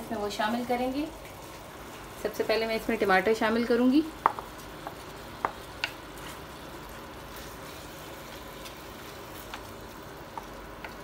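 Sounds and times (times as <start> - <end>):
pan sizzling: 0.0 - 11.0.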